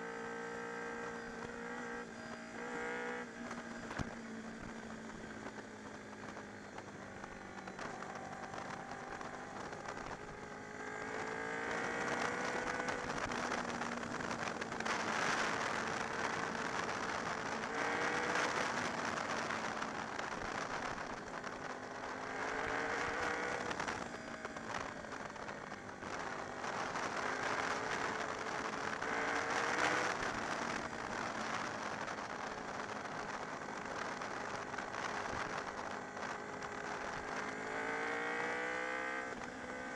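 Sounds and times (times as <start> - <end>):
motorcycle engine revving: 0.0 - 39.9
wind rush on microphone: 6.2 - 39.5.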